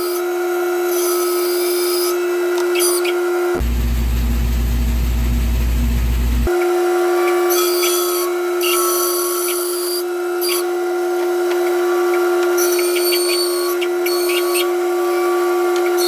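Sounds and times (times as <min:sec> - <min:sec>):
bandsaw cutting log: 0:00.0 - 0:03.6, 0:06.5 - 0:16.0.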